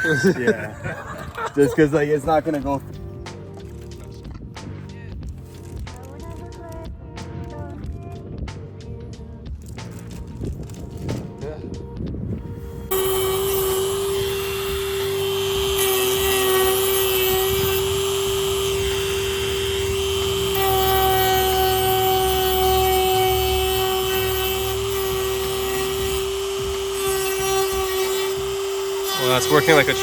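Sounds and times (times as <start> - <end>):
power tool whining: 0.0 - 8.4, 12.4 - 30.0.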